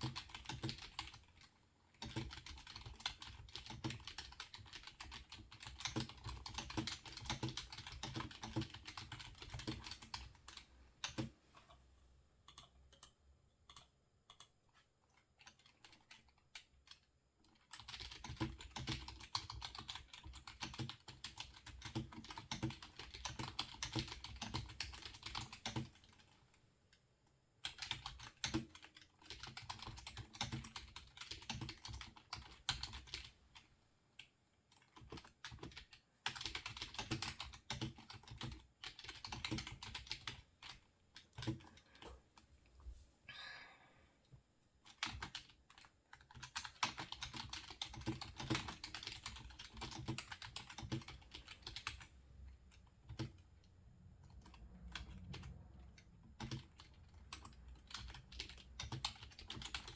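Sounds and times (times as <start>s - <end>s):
typing on computer keyboard: 0.0s - 11.8s, 12.4s - 26.6s, 27.6s - 42.2s, 44.8s - 52.1s, 52.8s - 59.9s.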